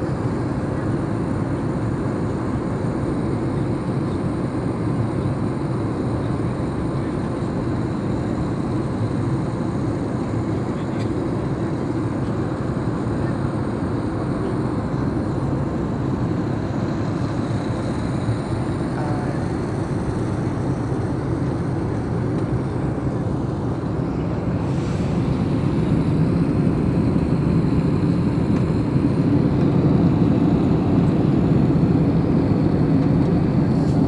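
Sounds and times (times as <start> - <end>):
jet cabin engine roar: 0.0 - 34.0.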